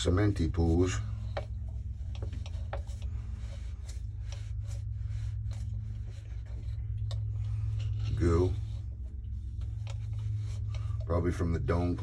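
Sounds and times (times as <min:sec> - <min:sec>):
cloth wiping plastic pipe: 0:00.0 - 0:12.0
steady low hum: 0:00.0 - 0:12.0.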